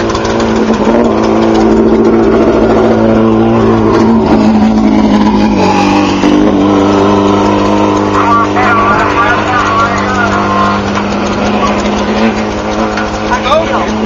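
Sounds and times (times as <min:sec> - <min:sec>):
race car engine fast idle: 0:00.0 - 0:14.0.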